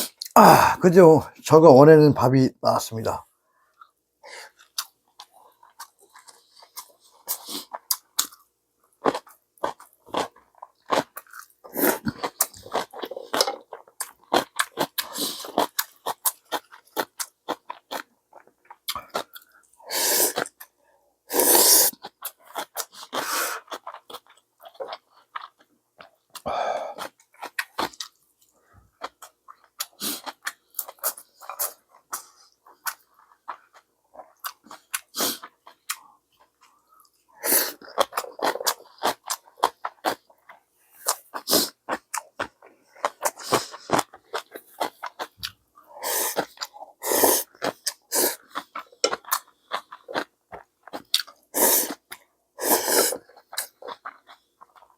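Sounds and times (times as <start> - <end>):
person chewing and smacking: 3.7 - 20.8, 21.9 - 54.9.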